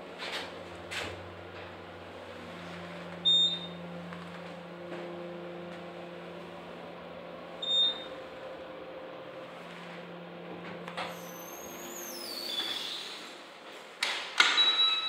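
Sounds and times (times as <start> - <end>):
elevator cab hum: 0.0 - 13.8.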